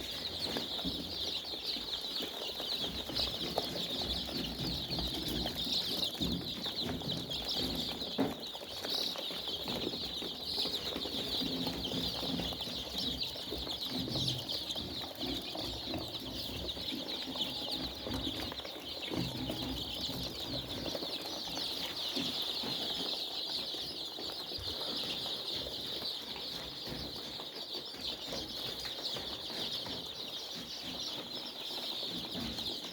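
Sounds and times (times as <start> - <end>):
chickens peeping and clucking: 0.0 - 32.9.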